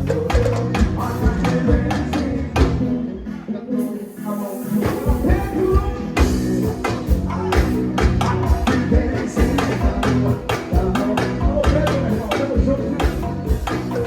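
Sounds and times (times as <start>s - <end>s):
drums and percussion: 0.0s - 14.0s
live band music: 0.0s - 14.0s.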